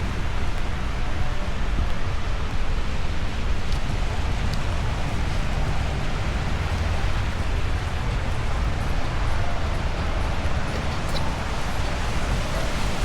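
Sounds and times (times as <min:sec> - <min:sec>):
low continuous rumble: 0:00.0 - 0:13.0
rain falling: 0:00.0 - 0:13.0.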